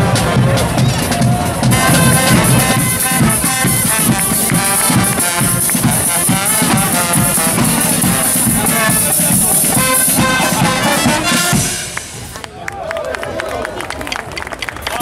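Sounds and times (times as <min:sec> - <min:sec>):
bass drum beats: 0:00.0 - 0:12.2
brass band chords: 0:00.0 - 0:12.4
snare drum beats: 0:00.0 - 0:12.4.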